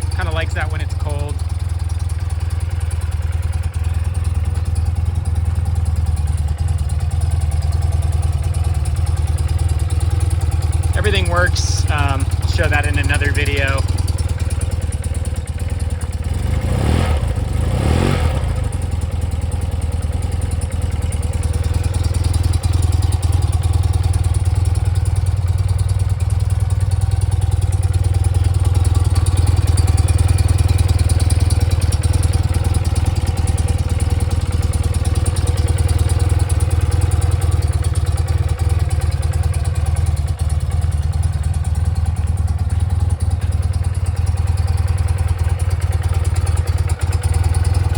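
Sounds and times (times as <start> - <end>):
motorcycle engine idling: 0.0 - 47.9.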